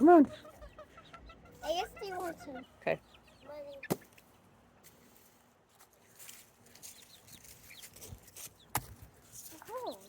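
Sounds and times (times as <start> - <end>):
chickens clucking: 0.0 - 4.8, 6.7 - 10.0.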